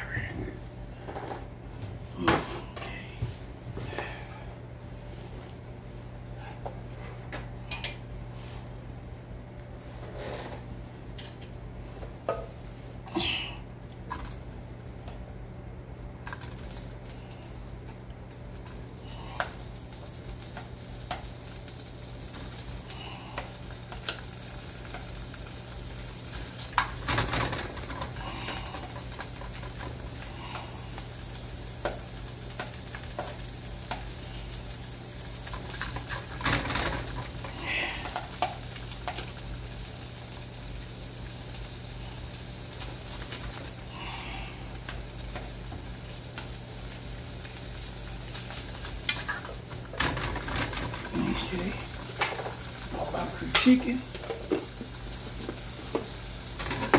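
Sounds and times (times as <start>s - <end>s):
steady low hum: 0.0s - 56.6s
food sizzling in a skillet: 3.4s - 13.0s, 16.0s - 56.9s.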